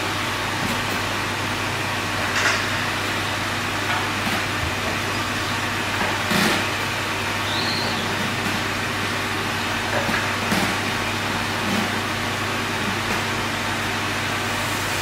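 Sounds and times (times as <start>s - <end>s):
blower-like machine noise: 0.0s - 15.0s.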